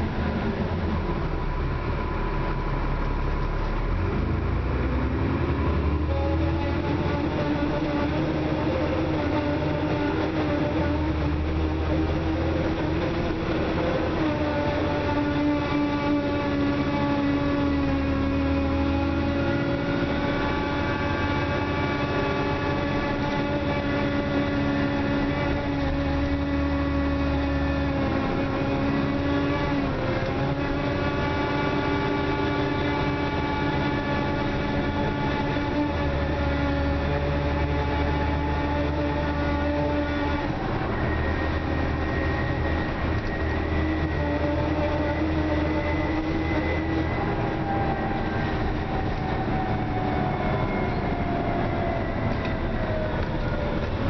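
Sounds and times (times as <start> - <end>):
bus engine whine and rumble: 0.0 - 54.0.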